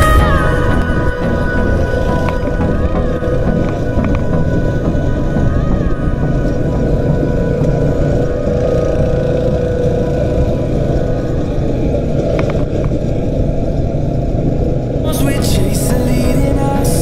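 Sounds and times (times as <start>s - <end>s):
music: 0.0s - 11.7s, 15.0s - 17.0s
go-kart engine running: 0.0s - 17.0s.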